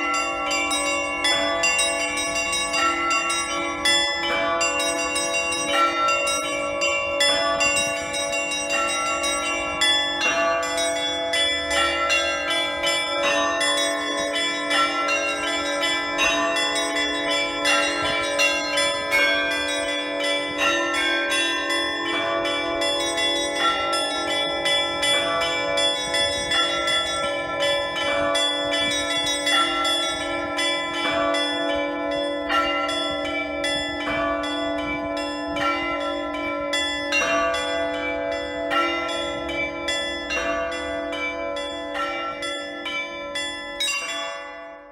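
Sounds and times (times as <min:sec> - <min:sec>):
large bells ringing: 0:00.0 - 0:44.9.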